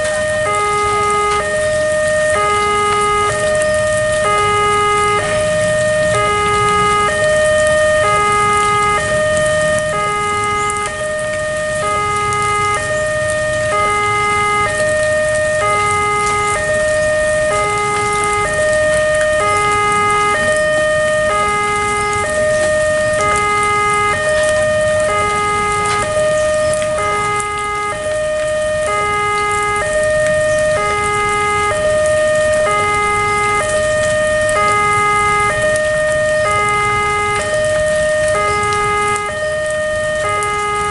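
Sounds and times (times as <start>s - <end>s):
heavy rain hissing: 0.0s - 40.9s
level crossing two-tone alarm: 0.0s - 40.9s.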